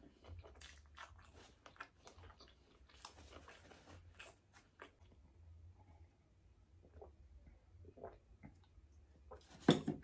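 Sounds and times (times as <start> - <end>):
person chewing food: 0.0 - 9.6.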